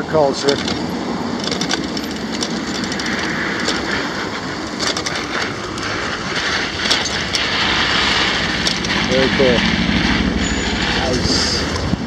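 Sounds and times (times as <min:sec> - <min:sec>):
rushing traffic: 0:00.0 - 0:12.0
bicycle clicks and rattles: 0:00.1 - 0:11.1.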